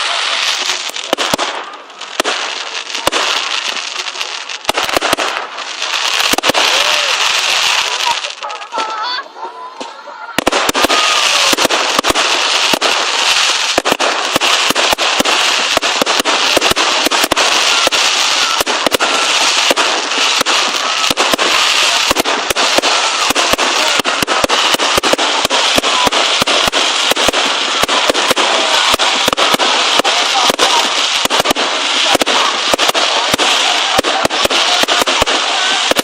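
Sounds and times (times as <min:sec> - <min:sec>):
fireworks bangs: 0:00.0 - 0:36.0
fireworks crackle: 0:00.0 - 0:36.0.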